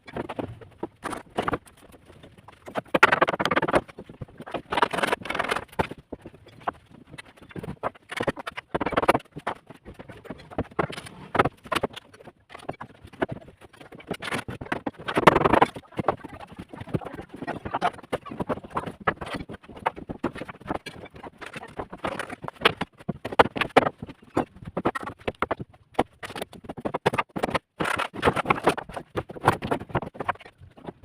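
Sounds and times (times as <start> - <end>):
wooden boards knocking and clattering: 0.1 - 31.0.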